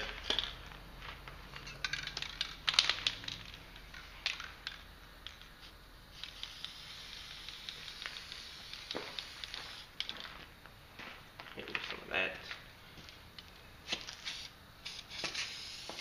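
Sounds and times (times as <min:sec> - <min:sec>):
soft steady hiss: 0:00.0 - 0:16.0.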